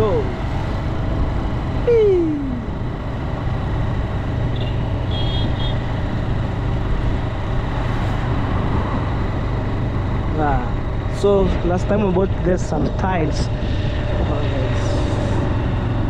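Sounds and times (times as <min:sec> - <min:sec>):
road noise: 0:00.0 - 0:16.0
wind: 0:00.0 - 0:16.0.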